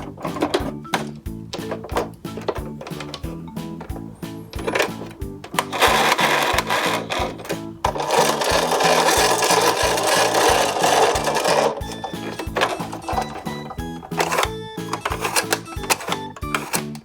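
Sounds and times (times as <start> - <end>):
background music with bass line: 0.0 - 17.0
toy garbage truck rattling whir: 0.0 - 17.0.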